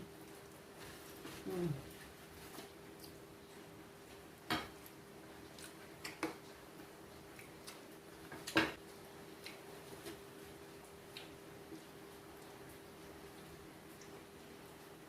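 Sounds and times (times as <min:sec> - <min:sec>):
faint steady hum: 0:00.0 - 0:15.0
person chewing food: 0:00.2 - 0:14.2.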